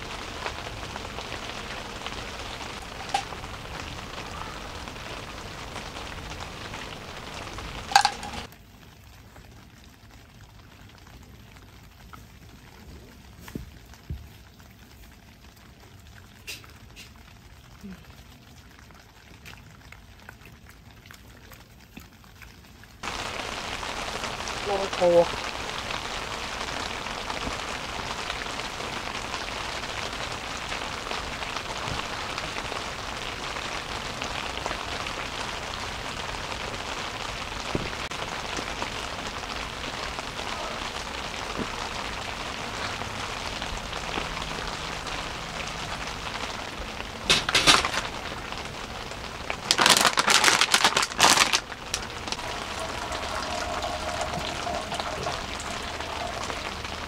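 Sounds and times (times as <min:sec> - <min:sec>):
rain pattering on tent: 0:00.0 - 0:57.0.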